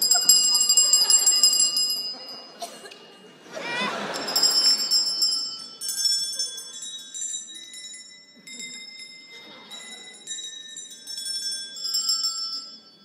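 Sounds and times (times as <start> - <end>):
small bells chiming: 0.0 - 13.0.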